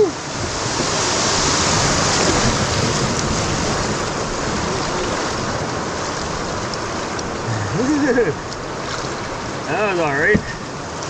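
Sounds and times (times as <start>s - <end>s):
rushing whitewater: 0.0s - 11.0s.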